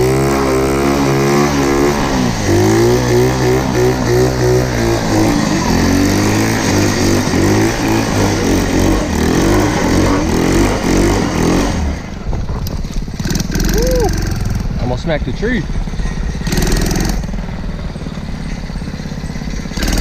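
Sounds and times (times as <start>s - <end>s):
quad engine revving: 0.0s - 20.0s.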